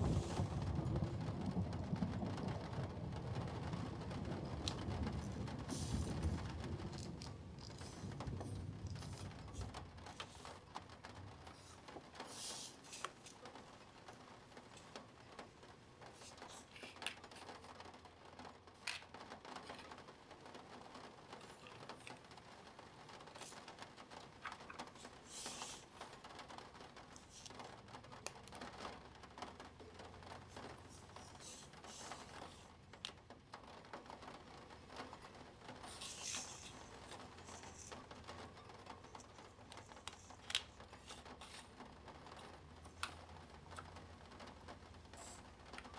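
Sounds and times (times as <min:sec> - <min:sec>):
scratching or rustling: 0:00.0 - 0:45.9.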